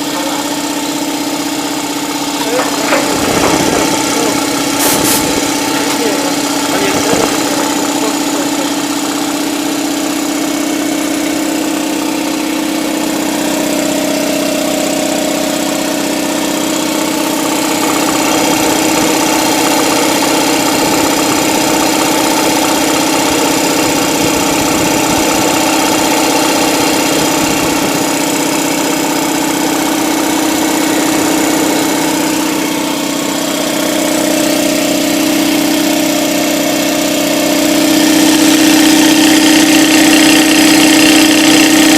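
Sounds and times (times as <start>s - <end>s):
air compressor running: 0.0s - 41.9s.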